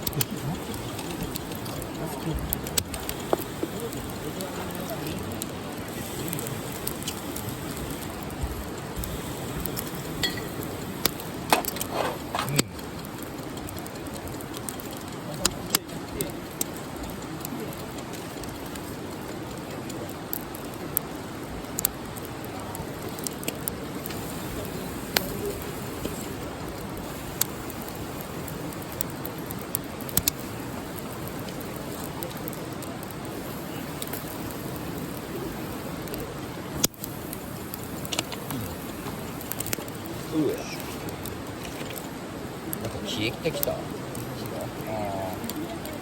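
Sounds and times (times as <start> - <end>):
campfire crackling: 0.0 - 46.0.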